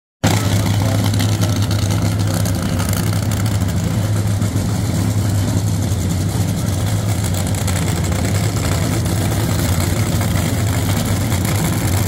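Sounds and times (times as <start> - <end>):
car engine idling: 0.2 - 12.0.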